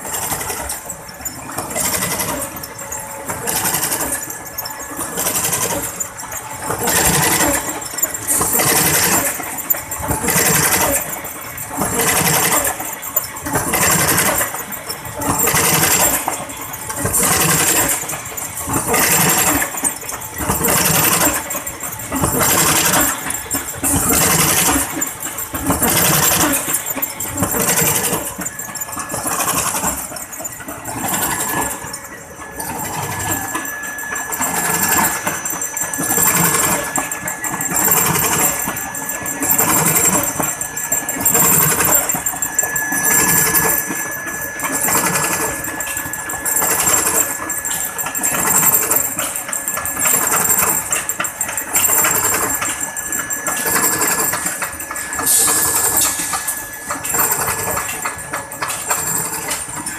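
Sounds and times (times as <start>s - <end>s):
machine running in regular cycle: 0.0s - 59.9s.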